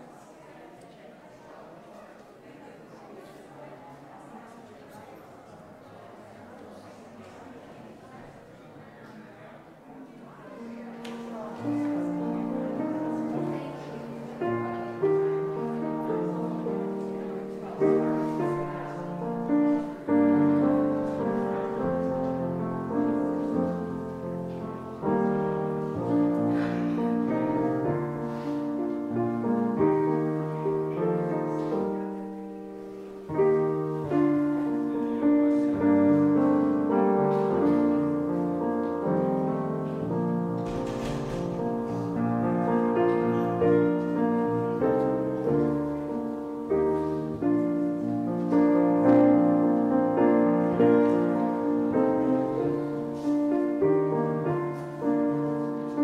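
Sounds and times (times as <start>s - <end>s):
slow piano chords: 5.0s - 56.0s.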